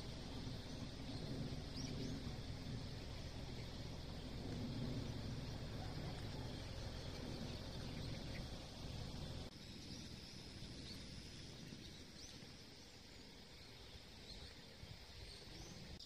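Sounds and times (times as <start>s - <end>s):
low rumble: 0.0s - 16.0s
steady hiss: 0.0s - 16.0s.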